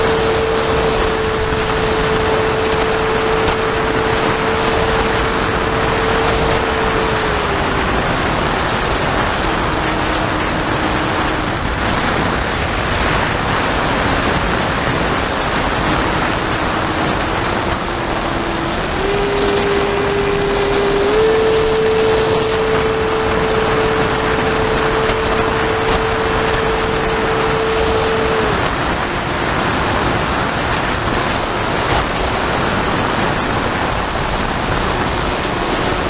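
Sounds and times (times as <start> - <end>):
model plane motor whine: 0.0 - 36.0
wind on microphone: 0.0 - 36.0.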